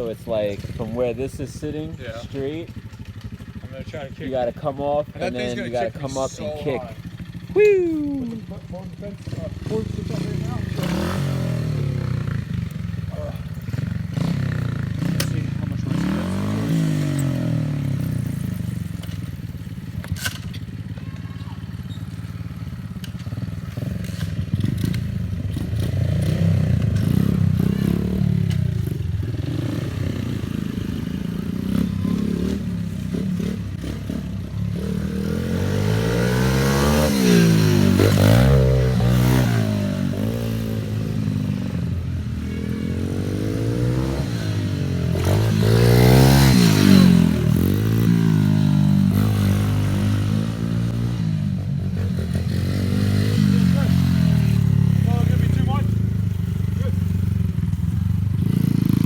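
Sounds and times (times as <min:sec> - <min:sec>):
pit bike engine revving: 0:00.0 - 0:59.0.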